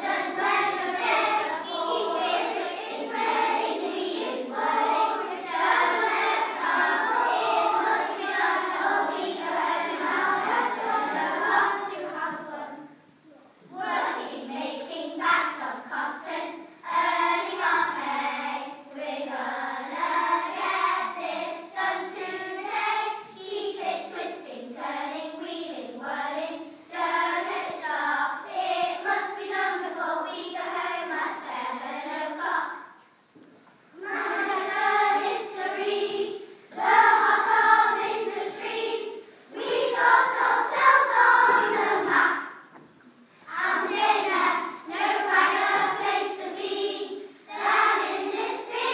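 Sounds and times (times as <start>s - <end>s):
children singing in unison: 0.0s - 13.0s, 13.7s - 33.0s, 34.0s - 42.9s, 43.5s - 48.9s.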